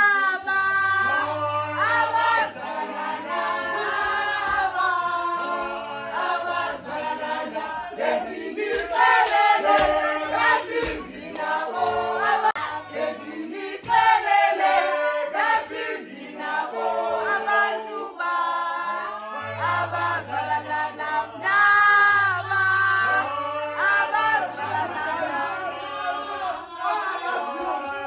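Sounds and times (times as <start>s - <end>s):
choir singing: 0.0s - 28.0s
music: 0.0s - 28.0s.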